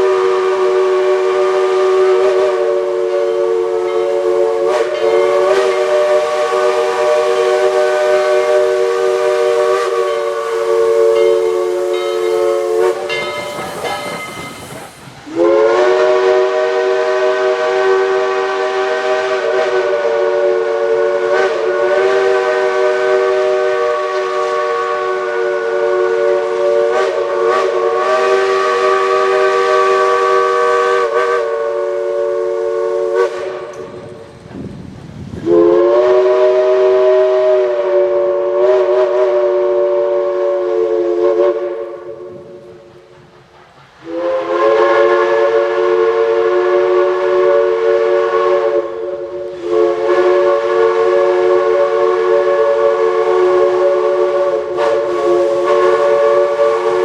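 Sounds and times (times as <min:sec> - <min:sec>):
steam locomotive chime whistle: 0:00.0 - 0:34.3, 0:35.4 - 0:43.0, 0:44.0 - 0:57.0.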